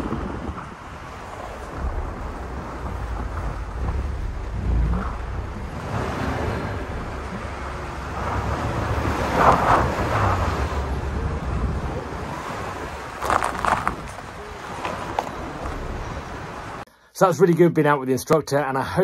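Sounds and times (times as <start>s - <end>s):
vehicle rumble on snow: 0.0s - 16.8s
wind buffeting microphone: 0.0s - 16.8s.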